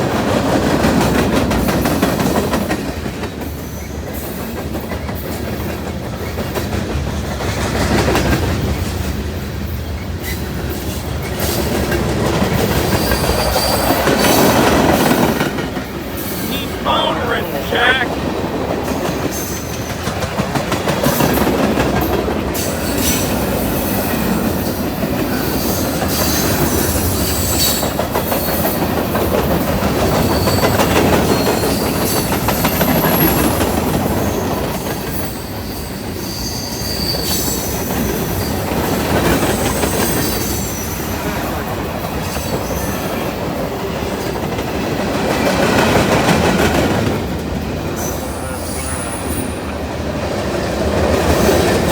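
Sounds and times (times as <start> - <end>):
train wheels clattering over rails: 0.0 - 16.5, 18.5 - 51.9.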